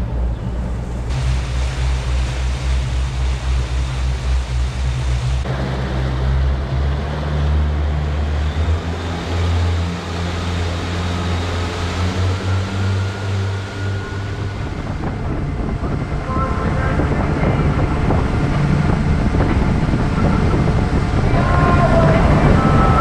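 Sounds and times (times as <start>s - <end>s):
boat engine running: 0.0s - 23.0s
rush of wind and water: 0.0s - 23.0s.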